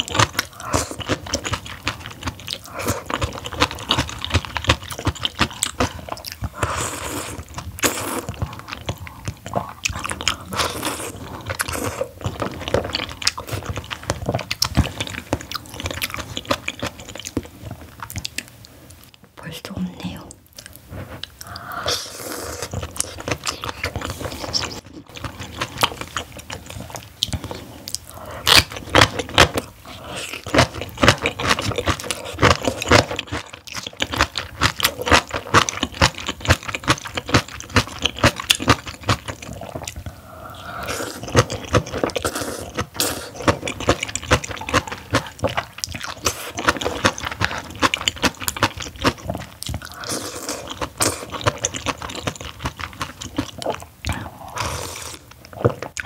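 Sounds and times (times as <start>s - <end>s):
food crunching: 0.0s - 19.2s, 20.5s - 56.0s
wet chewing with mouth clicks: 0.0s - 19.2s, 20.2s - 56.0s.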